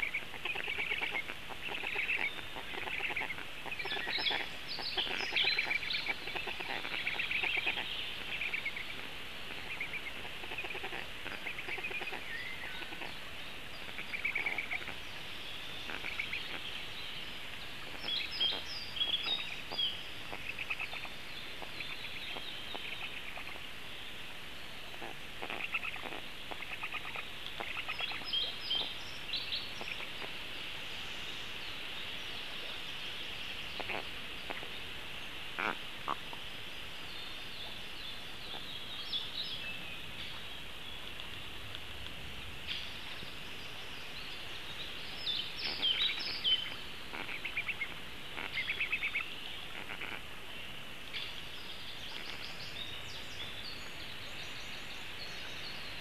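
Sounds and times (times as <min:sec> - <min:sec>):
birds chirping: 0:00.0 - 0:56.0
outdoor background noise: 0:00.0 - 0:56.0.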